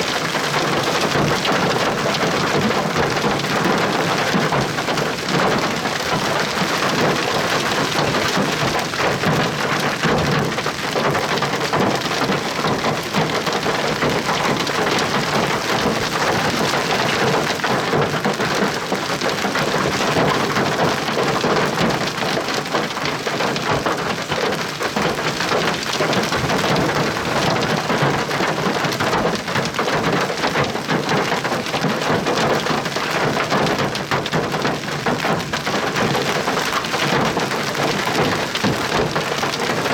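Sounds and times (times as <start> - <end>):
heavy rain drumming on vehicle: 0.0 - 39.9.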